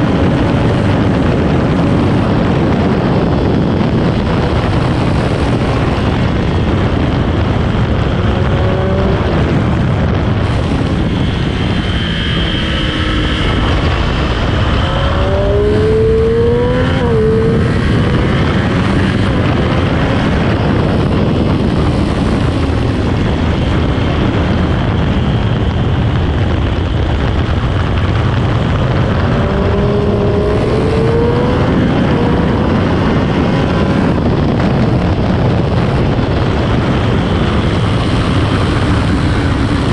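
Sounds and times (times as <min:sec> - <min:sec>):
motorcycle engine accelerating: 0:00.0 - 0:39.9
wind rushing: 0:00.0 - 0:39.9.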